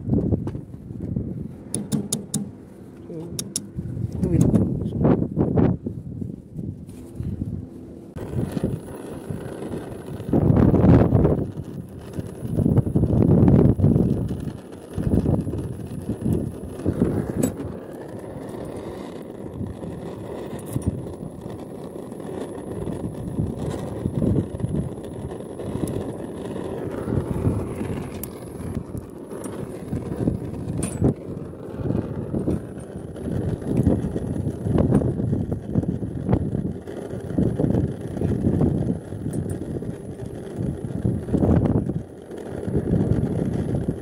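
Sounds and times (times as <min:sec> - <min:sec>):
wind buffeting microphone: 0:00.0 - 0:44.0
torch flame burning: 0:06.6 - 0:44.0.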